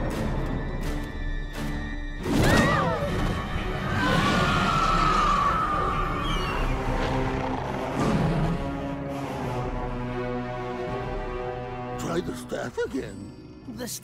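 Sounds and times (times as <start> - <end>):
suspenseful cartoon music: 0.0 - 14.0.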